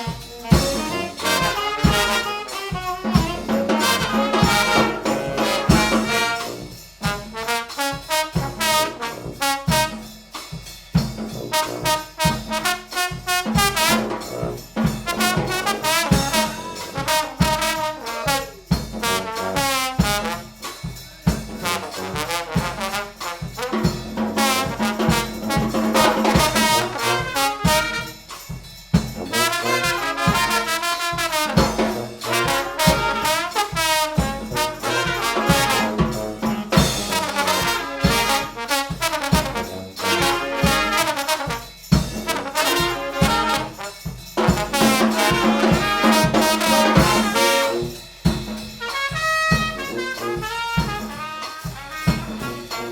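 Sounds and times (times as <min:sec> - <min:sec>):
brass band playing: 0:00.0 - 0:52.9
drum beat: 0:00.0 - 0:52.9.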